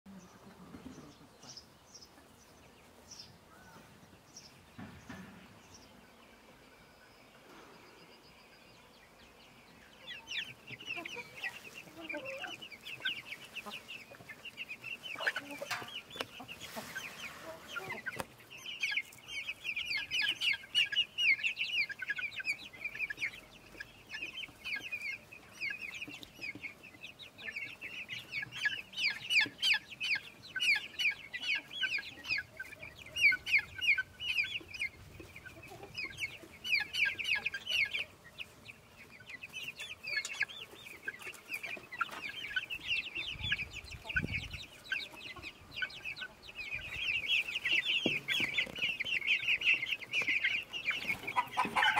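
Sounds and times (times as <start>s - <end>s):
chickens calling: 0.1s - 51.9s.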